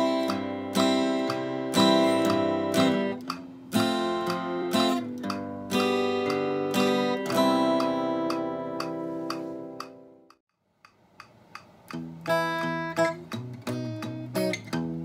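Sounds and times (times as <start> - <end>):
acoustic guitar strumming chords: 0.0 - 10.3, 11.8 - 15.0.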